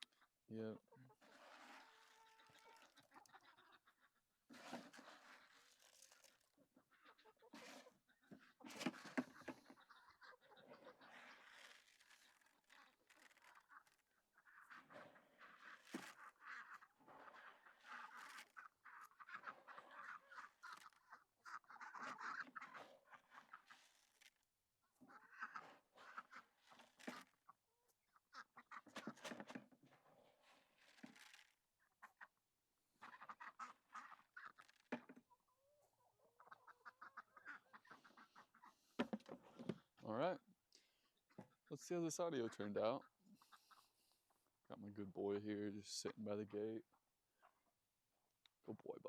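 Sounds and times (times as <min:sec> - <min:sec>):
faint poultry calling: 0:00.0 - 0:04.4, 0:05.0 - 0:29.2, 0:30.5 - 0:40.4, 0:41.2 - 0:44.5
chickens clucking and squawking: 0:00.2 - 0:24.0, 0:24.8 - 0:40.4, 0:41.2 - 0:44.5.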